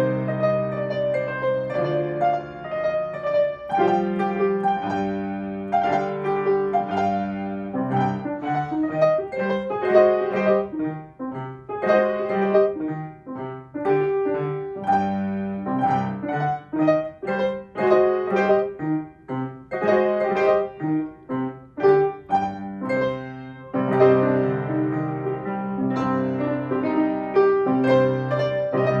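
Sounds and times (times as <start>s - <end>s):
several pianos playing: 0.0s - 29.0s.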